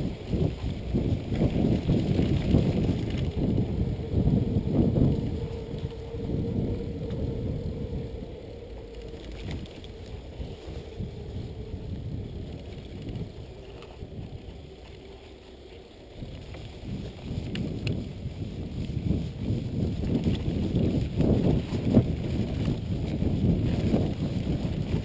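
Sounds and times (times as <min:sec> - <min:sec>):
bike tyres on dirt road: 0:00.0 - 0:25.0
faint steady hum: 0:00.0 - 0:25.0
wind: 0:00.0 - 0:25.0.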